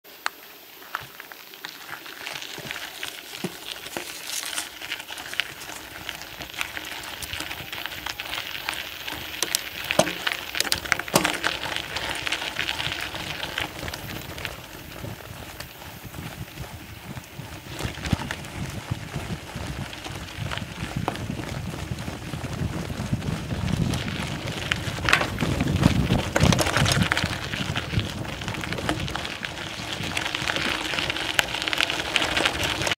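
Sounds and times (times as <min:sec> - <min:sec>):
bike tyres crunching on gravel: 0:00.1 - 0:32.9
bike clicks and rattles: 0:01.7 - 0:32.9.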